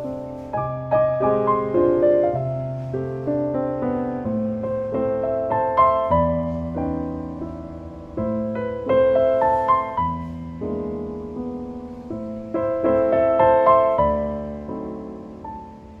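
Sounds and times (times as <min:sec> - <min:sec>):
gentle piano piece: 0:00.0 - 0:16.0.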